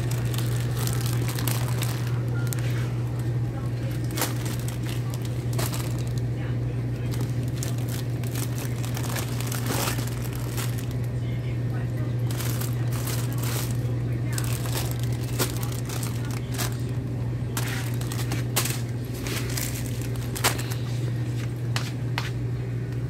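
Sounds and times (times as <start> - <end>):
plastic crinkling: 0.0 - 6.3, 6.9 - 11.2, 12.2 - 21.2
steady low hum: 0.0 - 23.0.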